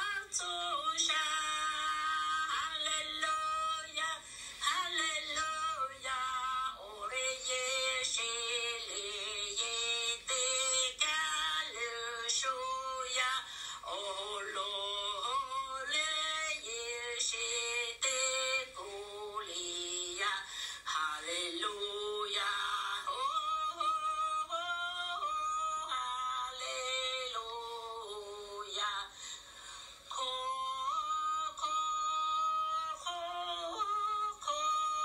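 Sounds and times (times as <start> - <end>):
person singing slow melody: 0.0 - 35.0.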